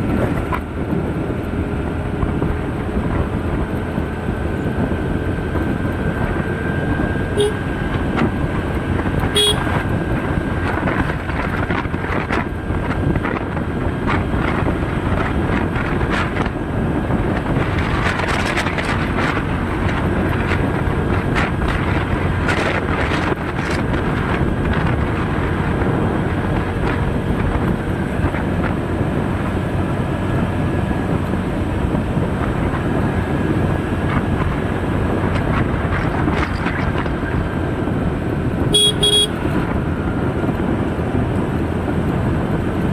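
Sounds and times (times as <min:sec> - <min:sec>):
moving vehicle rumbling: 0:00.0 - 0:42.9
wind buffeting microphone: 0:00.0 - 0:42.9.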